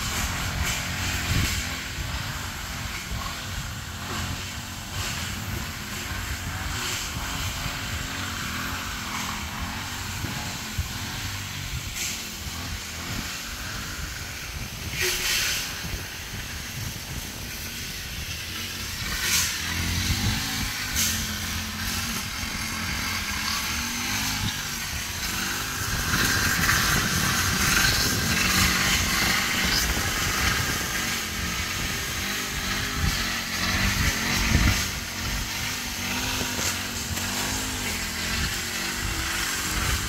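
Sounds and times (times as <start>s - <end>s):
brush cutter engine cutting grass: 0.0s - 40.0s.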